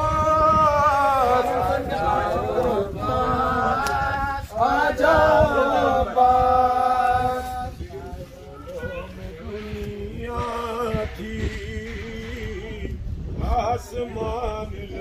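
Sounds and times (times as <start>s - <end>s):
man chanting a lament: 0.0s - 8.4s, 9.1s - 15.0s.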